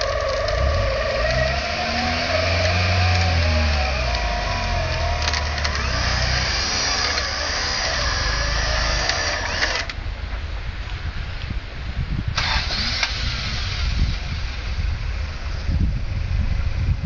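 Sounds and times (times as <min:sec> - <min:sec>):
four-wheel-drive engine running: 0:00.0 - 0:10.8, 0:12.3 - 0:17.0
high whine: 0:00.0 - 0:17.0.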